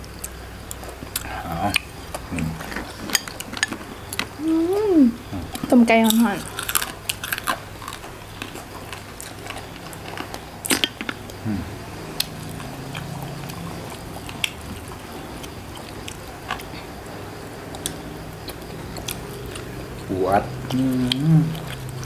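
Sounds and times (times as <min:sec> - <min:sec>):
chewing: 0:00.2 - 0:04.4, 0:05.2 - 0:11.5, 0:12.1 - 0:22.0.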